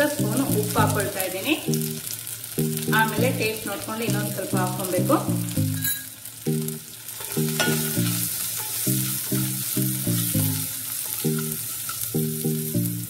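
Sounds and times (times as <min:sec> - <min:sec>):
low background tune: 0:00.0 - 0:13.0
vegetables sizzling in oil: 0:00.0 - 0:13.0.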